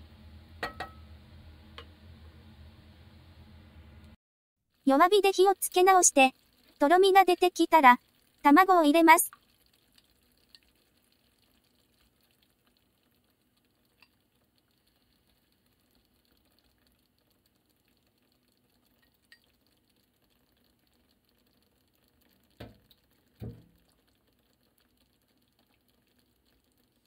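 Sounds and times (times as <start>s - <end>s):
sauce simmering in a pan: 4.7s - 27.0s.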